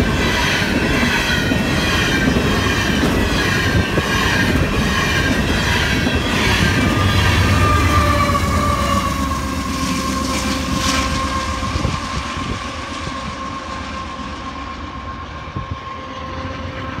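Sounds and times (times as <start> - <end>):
train cars rumbling on rails: 0.0 - 17.0
high wheel squeal: 0.2 - 17.0.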